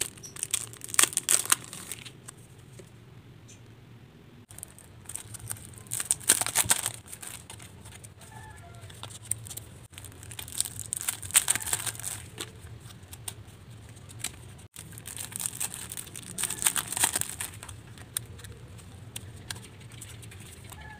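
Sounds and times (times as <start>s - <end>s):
cellophane crinkling: 0.0s - 2.3s, 4.5s - 20.9s.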